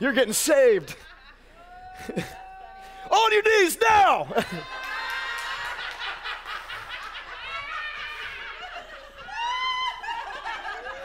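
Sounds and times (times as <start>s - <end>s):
people laughing: 0.6s - 2.7s, 4.1s - 11.0s.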